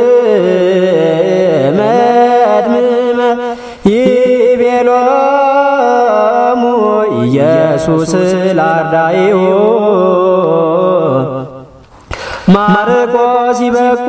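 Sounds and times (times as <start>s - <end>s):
person chanting: 0.0s - 11.8s, 12.4s - 14.0s.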